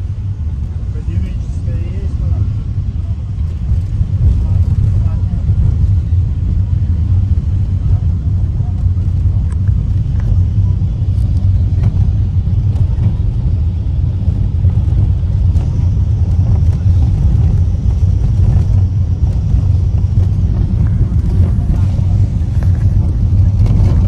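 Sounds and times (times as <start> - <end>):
bus engine rumble: 0.0 - 24.0
road noise: 0.0 - 24.0.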